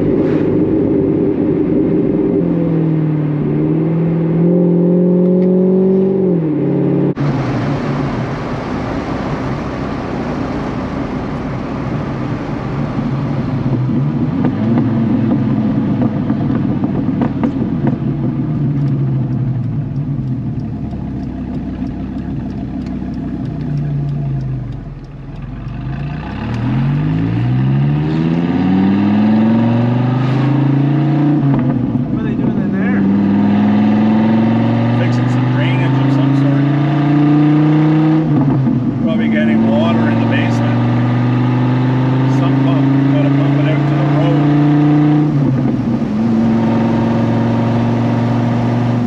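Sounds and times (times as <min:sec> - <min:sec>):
sports car engine accelerating: 0:00.0 - 0:49.0.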